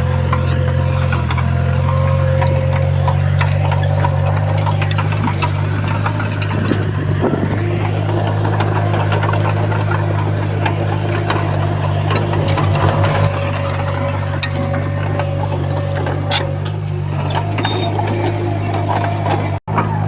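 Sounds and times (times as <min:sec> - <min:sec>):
diesel engine running: 0:00.0 - 0:20.0
metallic clicks and clanks: 0:00.1 - 0:20.0.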